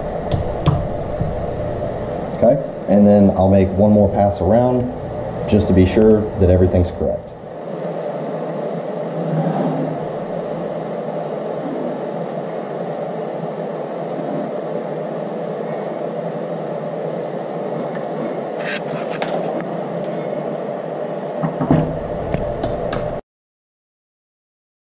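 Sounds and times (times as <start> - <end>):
background hum: 0.0 - 23.2.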